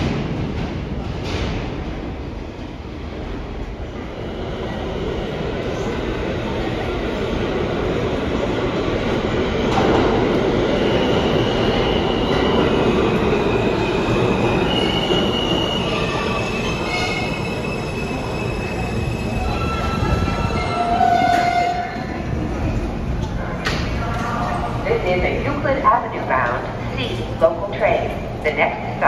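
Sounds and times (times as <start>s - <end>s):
subway train rumbling: 0.0s - 29.0s.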